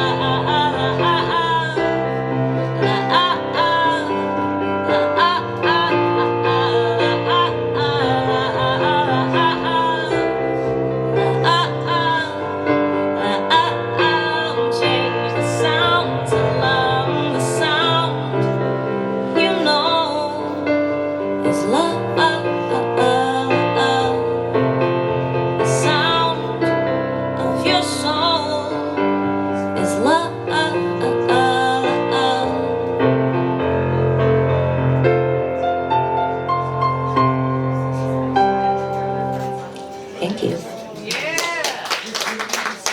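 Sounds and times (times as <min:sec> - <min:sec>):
electric keyboard: 0:00.0 - 0:40.7.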